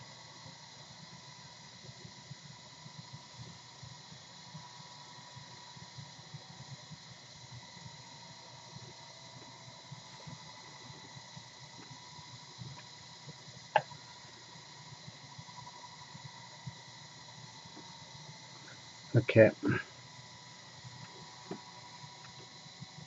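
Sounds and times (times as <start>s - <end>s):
room tone hiss: 0.0s - 23.0s.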